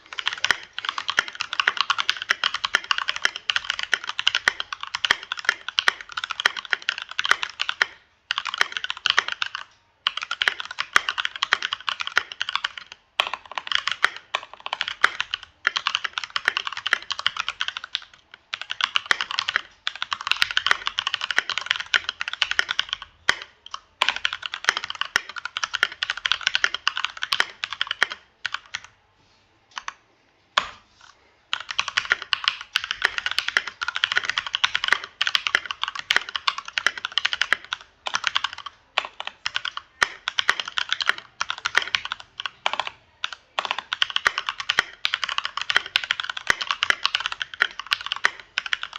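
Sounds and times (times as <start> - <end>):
mechanical keyboard typing: 0.0 - 29.0, 29.7 - 30.0, 30.6 - 30.8, 31.5 - 48.9.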